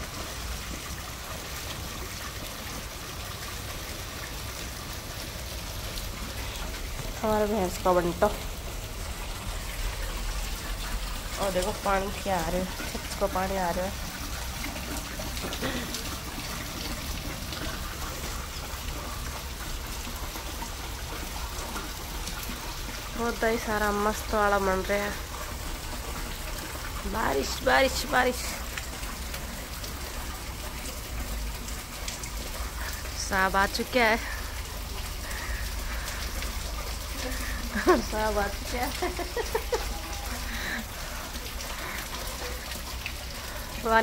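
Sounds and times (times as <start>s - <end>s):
steady rain hiss: 0.0s - 44.0s
water trickling: 0.0s - 44.0s.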